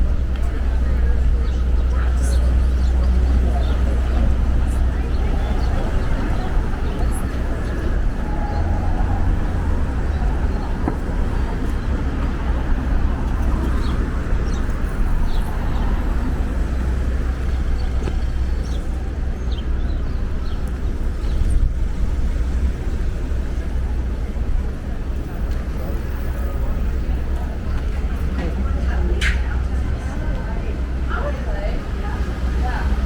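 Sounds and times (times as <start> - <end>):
traffic rumble: 0.0 - 33.0
voices of passers-by: 0.0 - 33.0.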